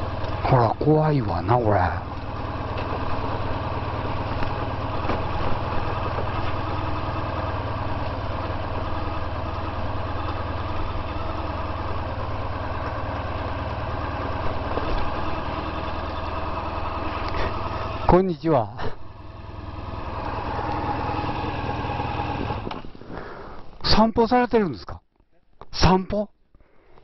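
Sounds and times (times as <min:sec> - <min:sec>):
motorcycle engine at low revs: 0:00.0 - 0:23.8.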